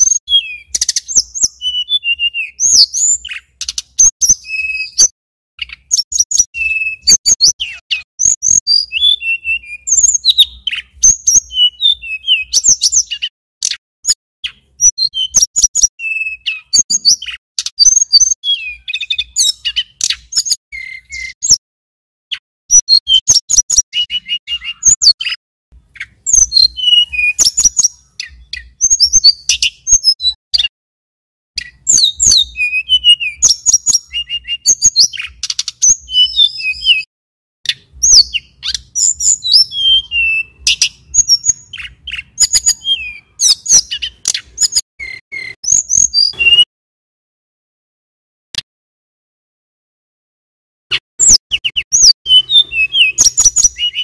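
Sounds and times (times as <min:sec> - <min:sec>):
bird singing chirps and trills: 0:00.0 - 0:21.6, 0:22.3 - 0:30.7, 0:31.6 - 0:37.1, 0:37.7 - 0:46.7, 0:50.9 - 0:54.0.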